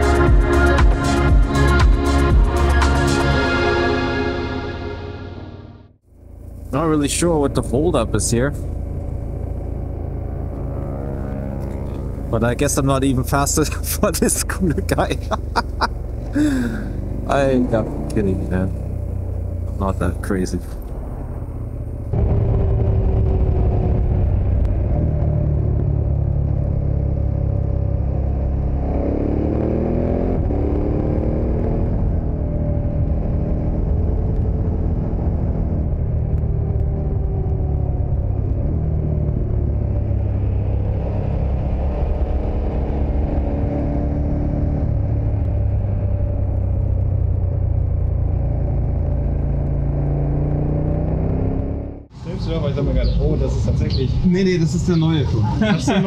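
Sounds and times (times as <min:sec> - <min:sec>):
motorcycle engine rumbling: 0:05.9 - 0:56.0.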